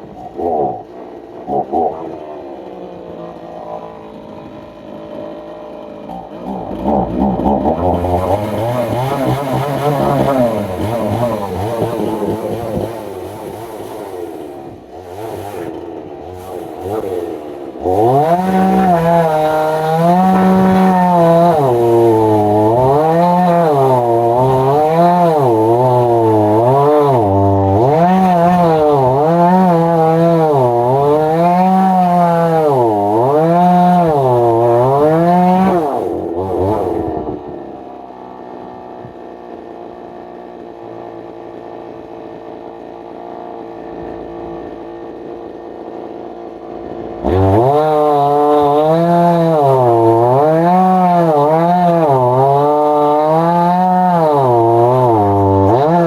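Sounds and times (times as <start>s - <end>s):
chainsaw cutting a log: 0.0s - 56.0s.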